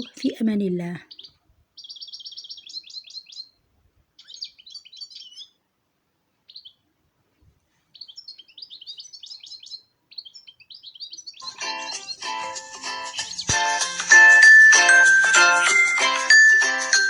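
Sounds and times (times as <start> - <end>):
songbird chirping trills: 0.0 - 5.6, 6.4 - 6.9, 7.8 - 17.0.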